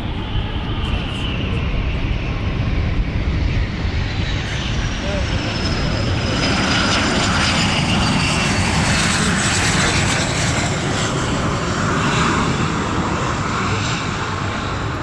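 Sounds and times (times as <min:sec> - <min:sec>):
jet aircraft roar: 0:00.0 - 0:15.0.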